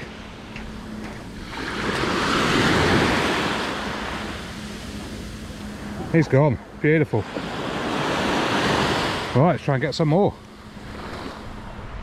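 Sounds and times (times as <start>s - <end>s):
wave washing over sand: 0.0s - 12.0s.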